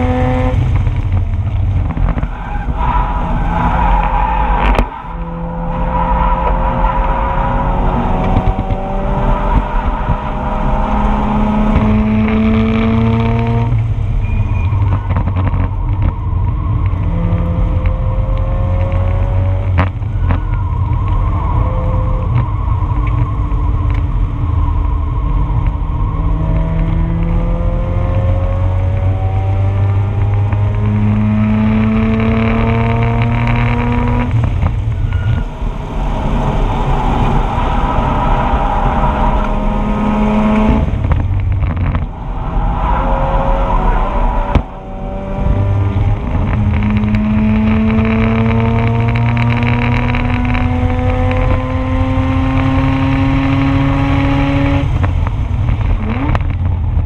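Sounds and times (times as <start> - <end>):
road and wind noise: 0.0 - 57.0
rotary engine accelerating: 0.0 - 57.0.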